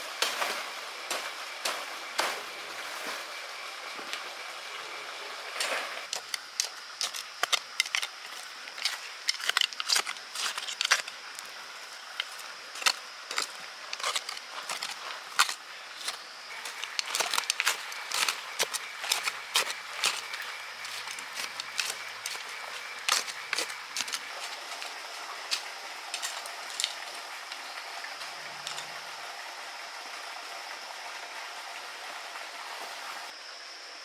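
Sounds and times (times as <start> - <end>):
steady outdoor hiss: 0.0 - 34.0.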